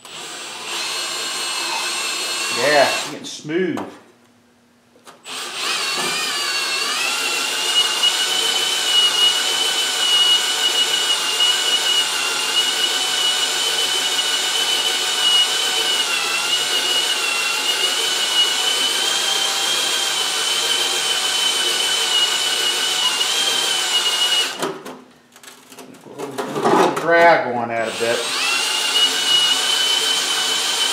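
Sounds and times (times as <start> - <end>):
cordless drill motor whine: 0.0 - 3.2, 5.3 - 24.6, 27.9 - 30.9.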